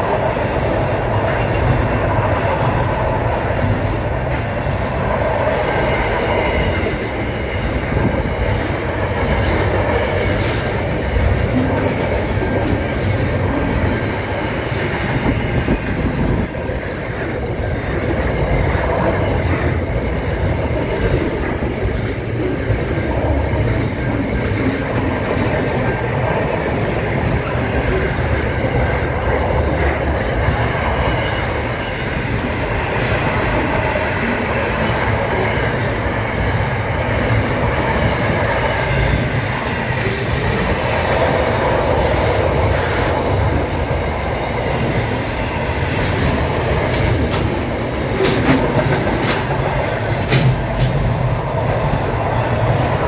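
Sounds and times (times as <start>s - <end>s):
freight train wheels rumbling: 0.0s - 53.0s
train wheels clicking and knocking: 0.0s - 53.0s.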